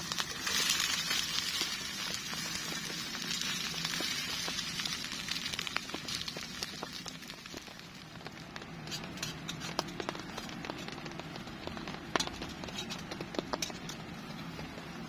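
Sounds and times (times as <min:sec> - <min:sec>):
sharp ticks and crackles: 0:00.0 - 0:15.0.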